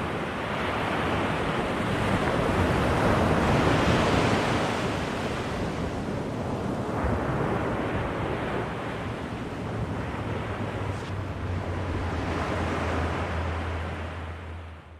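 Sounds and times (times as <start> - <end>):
ocean waves breaking on beach: 0.0 - 14.9.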